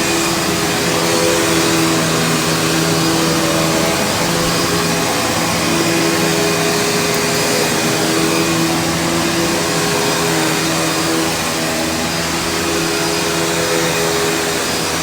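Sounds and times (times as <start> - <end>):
upright vacuum running over carpet: 0.0 - 15.0.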